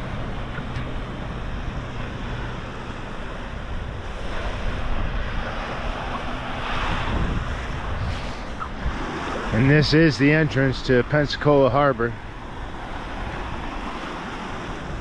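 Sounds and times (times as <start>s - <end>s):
surf washing onto beach: 0.0s - 15.0s
wind rumbling on microphone: 0.0s - 15.0s.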